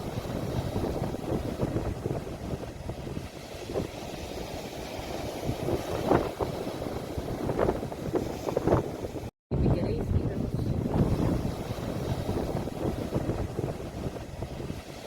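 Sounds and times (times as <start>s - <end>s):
sea waves: 0.0s - 15.0s
wind buffeting microphone: 0.0s - 15.0s.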